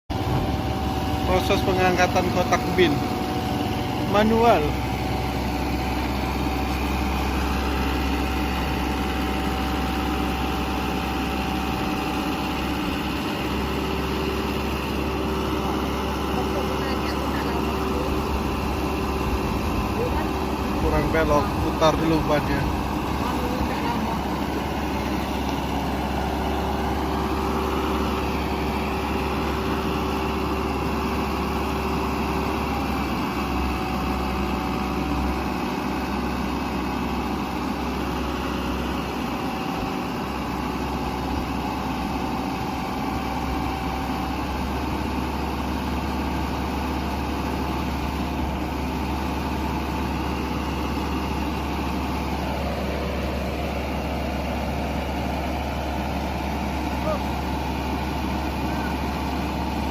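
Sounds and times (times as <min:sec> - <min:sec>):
diesel engine running: 0:00.1 - 0:59.9.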